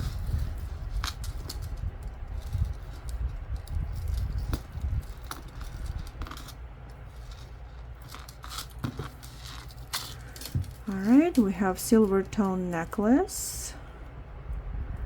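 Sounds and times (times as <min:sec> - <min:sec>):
low handling rumble: 0:00.0 - 0:15.0.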